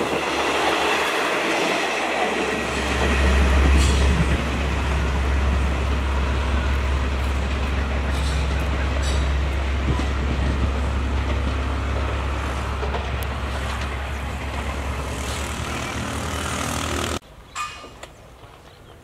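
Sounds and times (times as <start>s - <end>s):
diesel locomotive engine drone: 0.0s - 17.2s
train noise: 0.0s - 18.9s.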